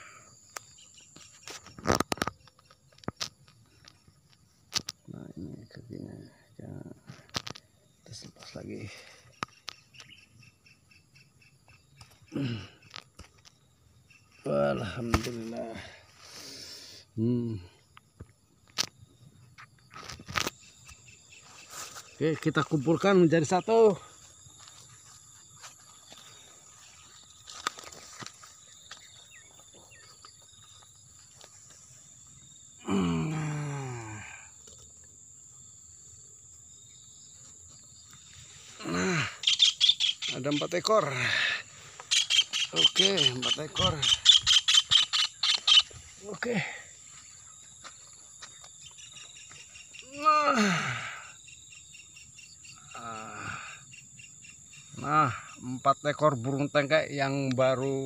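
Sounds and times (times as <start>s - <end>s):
crickets chirring: 0.0s - 58.0s
insects droning: 0.0s - 58.0s.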